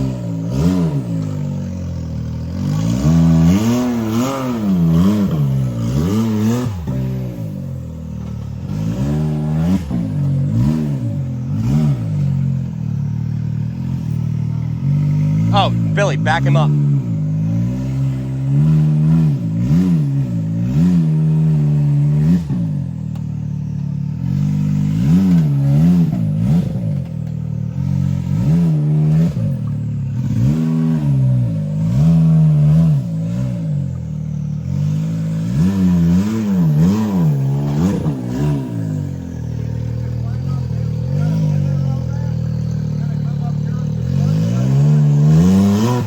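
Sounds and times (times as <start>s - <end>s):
utv engine revving: 0.0s - 46.0s.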